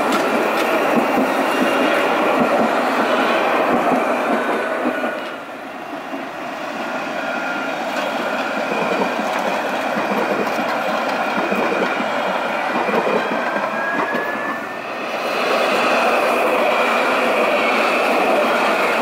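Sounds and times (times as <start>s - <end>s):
tram wheels rolling on rails: 0.0s - 19.0s.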